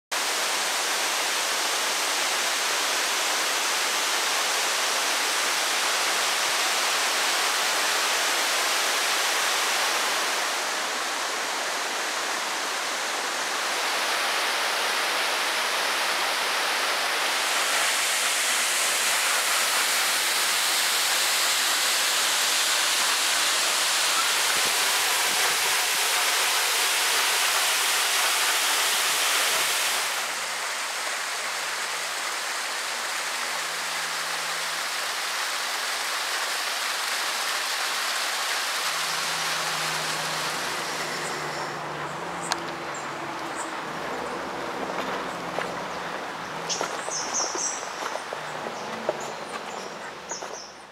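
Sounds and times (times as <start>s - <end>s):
waterfall rushing and splashing: 0.1s - 50.9s.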